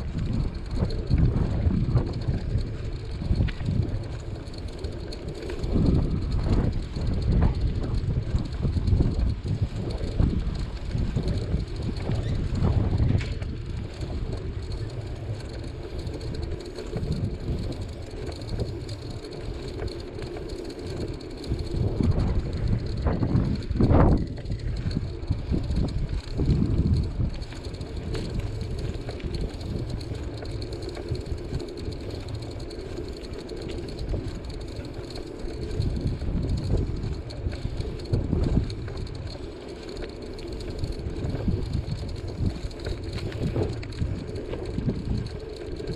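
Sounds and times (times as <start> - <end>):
bicycle jolt: 0.0 - 45.9
bicycle tyres rumbling on asphalt: 0.0 - 45.9
wind on microphone: 0.0 - 45.9.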